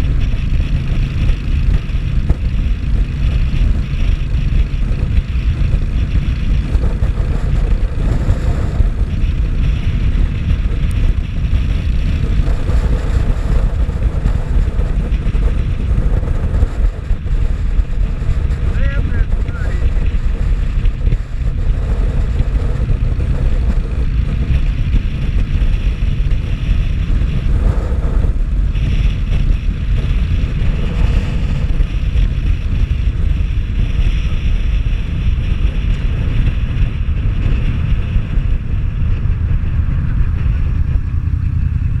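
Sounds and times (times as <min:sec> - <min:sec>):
road and engine noise: 0:00.0 - 0:42.0
wind rushing over microphone: 0:00.0 - 0:42.0.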